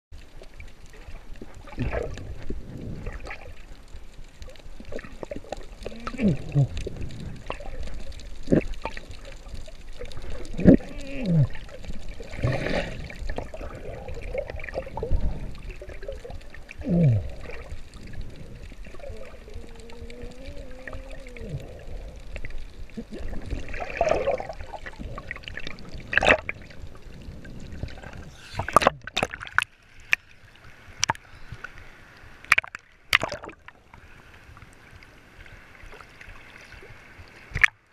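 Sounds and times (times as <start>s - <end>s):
underwater sloshing and gurgling: 0.2s - 37.9s.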